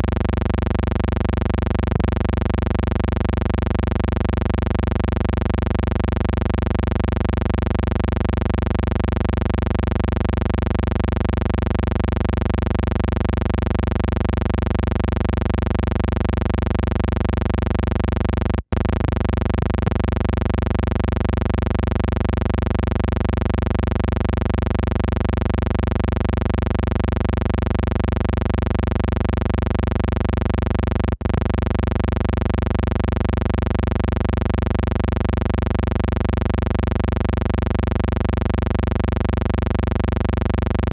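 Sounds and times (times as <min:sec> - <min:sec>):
loud buzzy electrical hum: 0:00.0 - 0:40.9.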